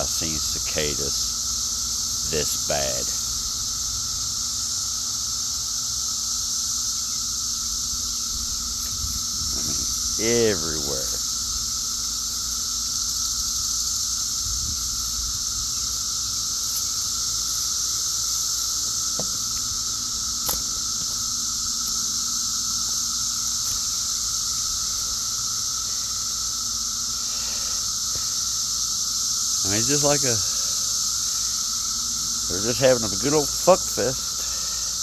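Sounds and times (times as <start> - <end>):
cicadas droning: 0.0 - 35.0.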